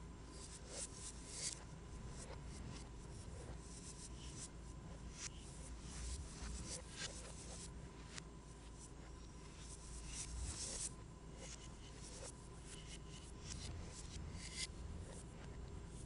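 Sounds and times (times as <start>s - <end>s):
faint steady tone: 0.0s - 16.0s
stylus scratching on tablet screen: 0.3s - 16.0s.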